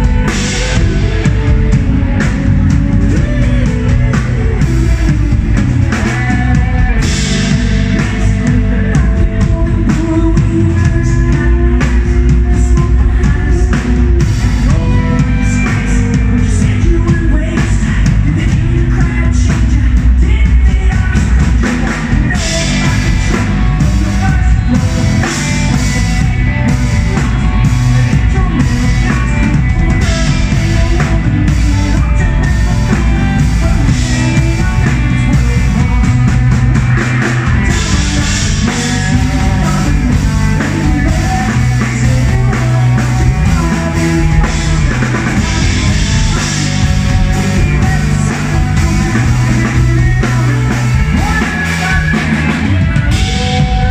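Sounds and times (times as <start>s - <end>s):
lead vocals: 0.0s - 53.9s
live rock band: 0.0s - 53.9s.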